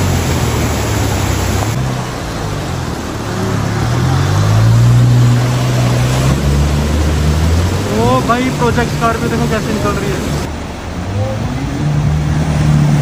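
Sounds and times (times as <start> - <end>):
rushing river water: 0.0 - 13.0
suv engine: 0.0 - 13.0.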